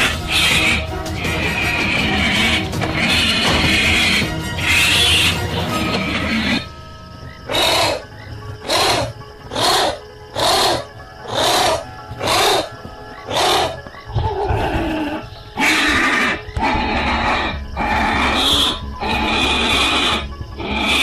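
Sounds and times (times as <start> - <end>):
animal calls: 0.0 - 21.0
music: 0.0 - 21.0.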